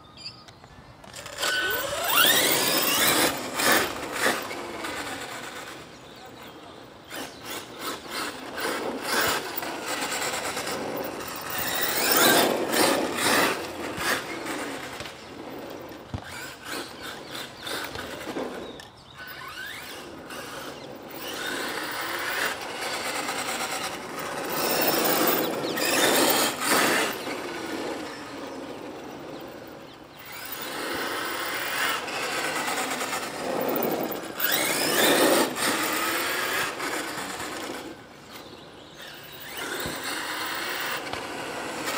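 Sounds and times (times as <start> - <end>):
rc truck motor whine: 0.0 - 41.9
tyre noise: 7.1 - 41.9.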